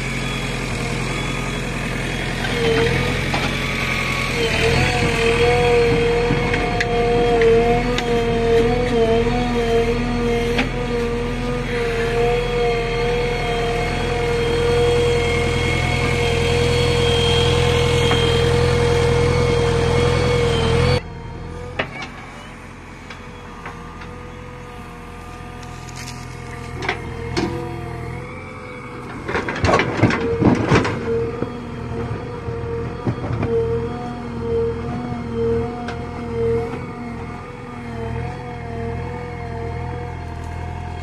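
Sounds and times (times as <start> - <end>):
diesel engine and hydraulics whining: 0.0 - 41.0.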